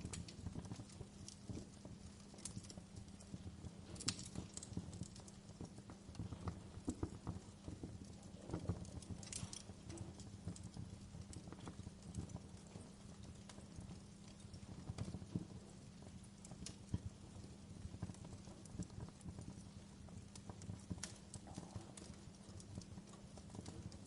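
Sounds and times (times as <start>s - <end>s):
low steady fire rumble: 0.0s - 24.0s
wood fire crackling: 0.0s - 24.0s.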